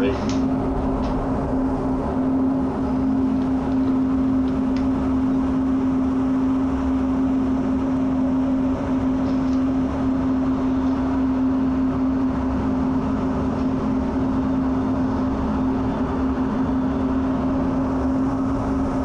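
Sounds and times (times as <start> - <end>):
constant low hum: 0.0 - 19.0
jet engine and airflow noise: 0.0 - 19.0.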